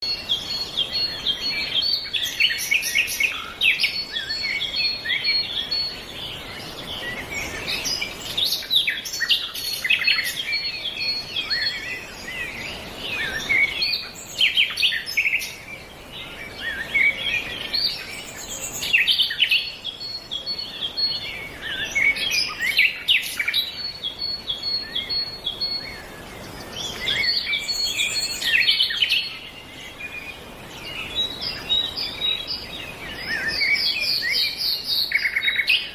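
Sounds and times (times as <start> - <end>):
songbirds singing and chirping: 0.0 - 35.9.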